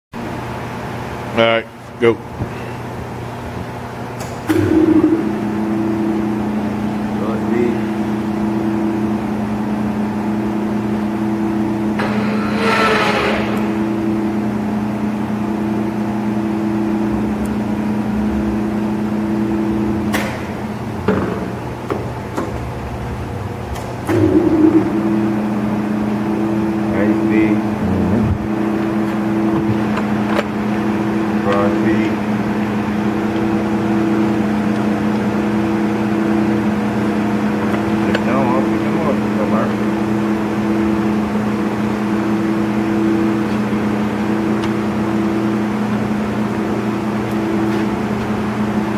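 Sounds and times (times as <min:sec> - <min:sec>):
lathe motor and gear hum: 0:03.0 - 0:48.9.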